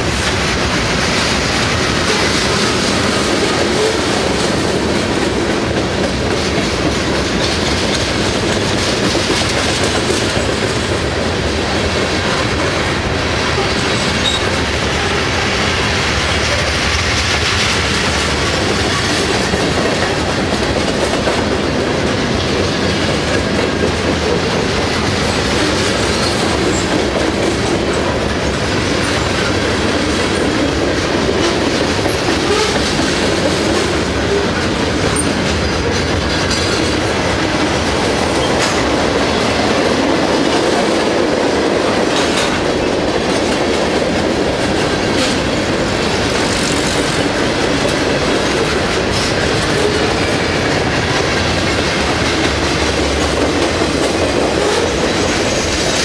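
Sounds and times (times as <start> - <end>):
train wheels rumbling on rail: 0.0 - 56.0
wheels knocking on rail joints: 0.0 - 56.0.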